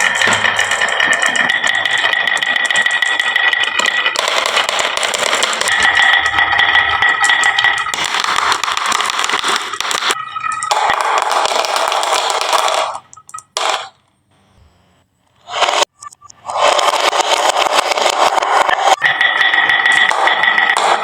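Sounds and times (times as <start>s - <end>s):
marbles rolling on wooden track: 0.0s - 13.9s, 16.5s - 21.0s.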